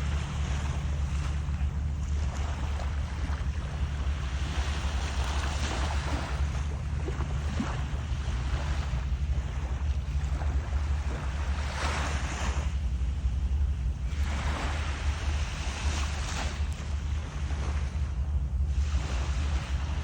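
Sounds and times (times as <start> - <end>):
waves washing in: 0.0 - 20.0
wind rumble on microphone: 0.0 - 20.0.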